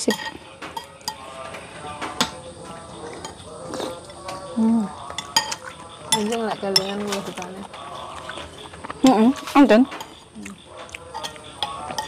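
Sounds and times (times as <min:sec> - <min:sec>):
low murmured voices: 0:00.0 - 0:12.0
spoons clinking against bowls: 0:00.0 - 0:12.0.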